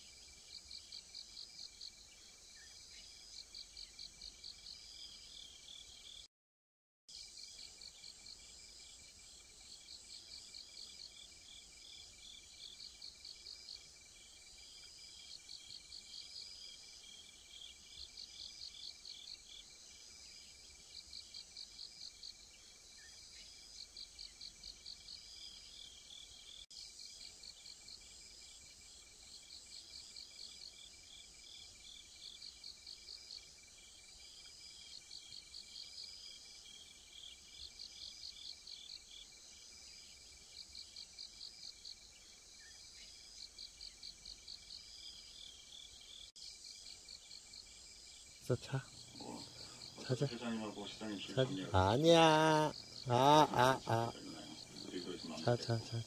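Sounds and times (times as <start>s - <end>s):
insects chirping: 0.0s - 6.3s, 7.1s - 56.0s
high insect trill: 7.1s - 56.0s.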